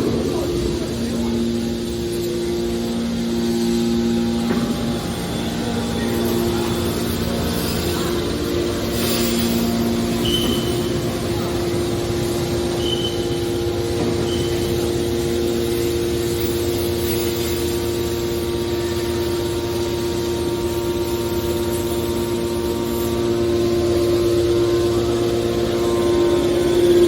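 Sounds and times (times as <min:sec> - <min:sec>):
hydraulic baler motor hum: 0:00.0 - 0:27.0.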